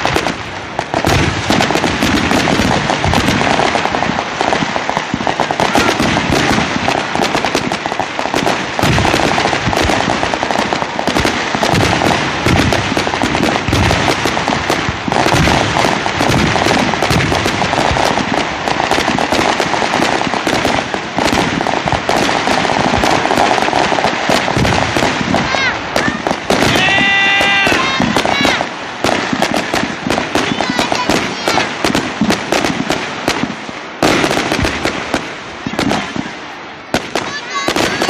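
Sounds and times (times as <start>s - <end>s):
fireworks crackling and banging: 0.0s - 38.0s.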